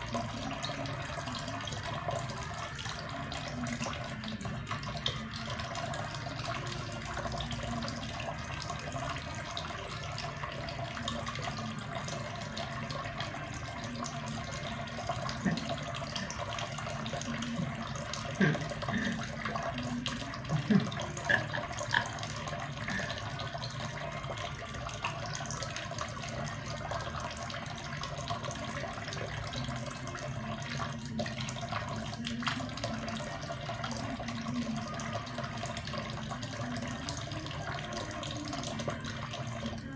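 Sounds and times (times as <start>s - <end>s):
faucet running into metal sink: 0.0s - 39.9s.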